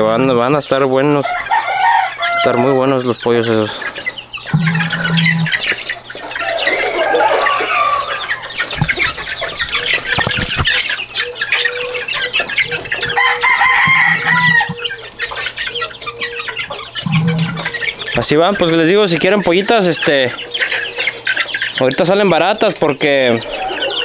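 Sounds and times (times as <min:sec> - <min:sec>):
chicks peeping and clucking: 0:00.0 - 0:24.0.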